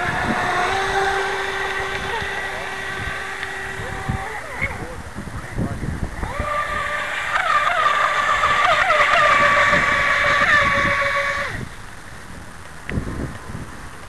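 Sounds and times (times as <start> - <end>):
electric motor high whine: 0.0 - 11.8.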